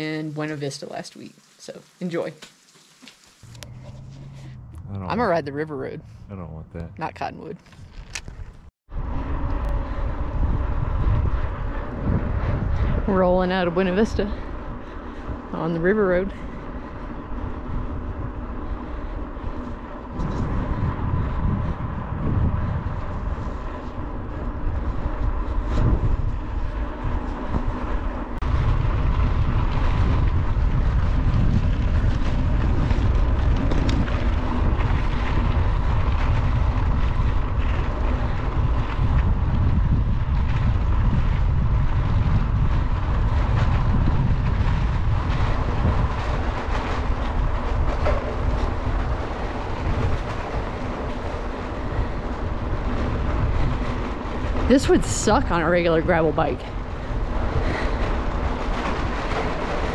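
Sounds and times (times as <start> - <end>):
bike tyres rolling on gravel: 0.0 - 4.3, 7.8 - 59.9
wind buffeting microphone: 3.4 - 59.9.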